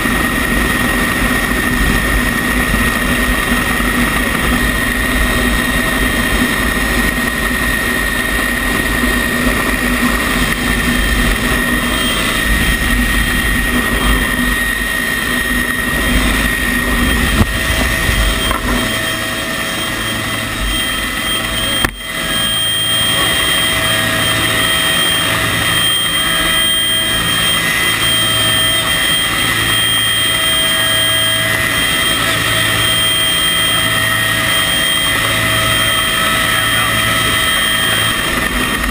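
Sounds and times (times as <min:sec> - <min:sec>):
heavy low rumble: 0:00.0 - 0:38.9
helicopter rotor noise: 0:00.0 - 0:38.9
helicopter turbine whine: 0:00.0 - 0:38.9.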